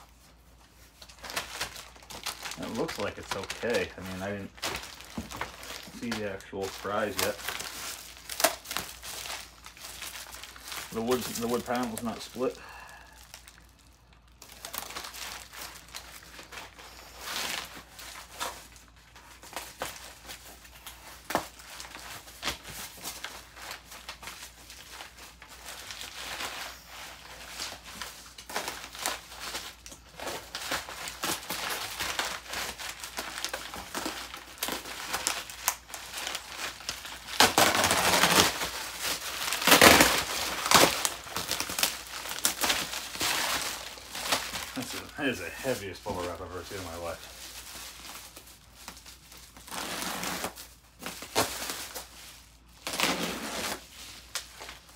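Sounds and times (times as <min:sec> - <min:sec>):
bubble wrap crinkling and crackling: 0:00.0 - 0:54.9.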